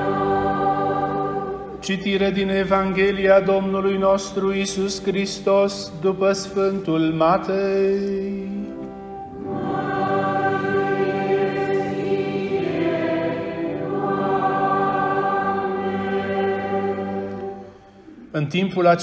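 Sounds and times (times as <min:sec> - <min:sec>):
choir singing held chords: 0:00.0 - 0:06.7, 0:07.5 - 0:18.4.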